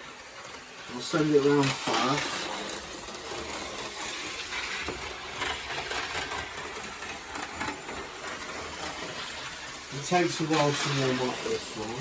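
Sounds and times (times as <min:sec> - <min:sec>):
model train whirring: 0:00.0 - 0:12.0.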